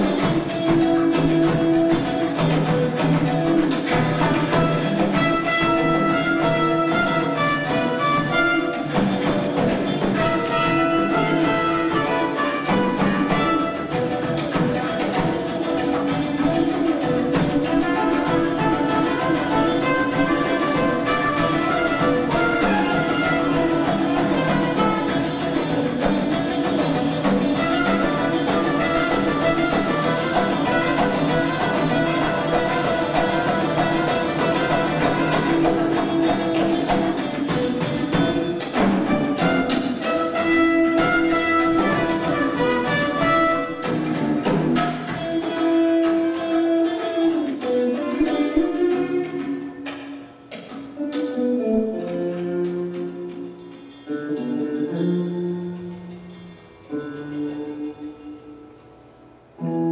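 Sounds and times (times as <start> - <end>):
drum kit: 0.0 - 58.4
trumpet: 0.0 - 58.9
clarinet: 0.0 - 59.0, 59.6 - 59.9.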